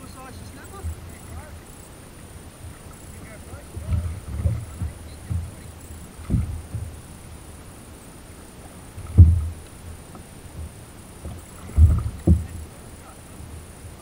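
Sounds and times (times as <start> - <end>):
water lapping against a hull: 0.0 - 14.0
dull low thumps: 0.7 - 1.6, 2.2 - 14.0.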